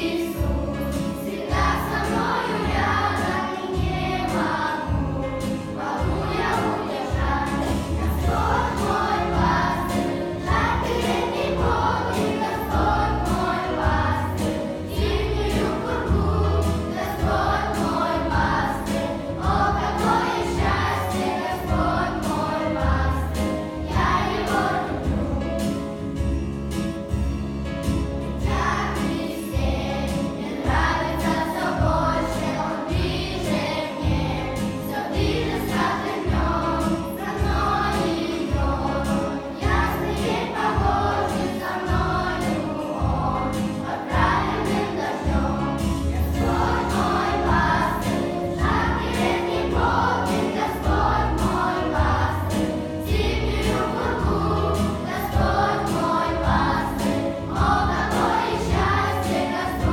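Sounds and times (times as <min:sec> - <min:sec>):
backing track with steady beat: 0:00.0 - 0:59.9
children singing together: 0:00.0 - 0:59.9.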